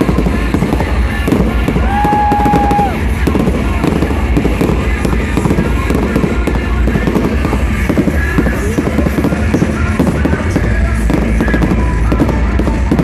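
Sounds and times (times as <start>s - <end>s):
fireworks crackling and popping: 0.0s - 13.0s
loud music: 0.0s - 13.0s.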